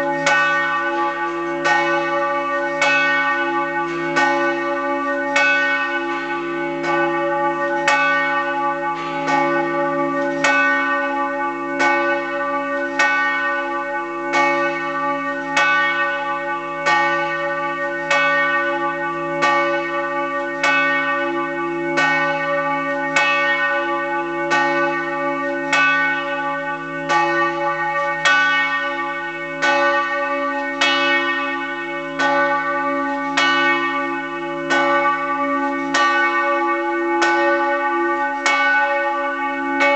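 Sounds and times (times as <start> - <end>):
church bell tolling: 0.0 - 39.9.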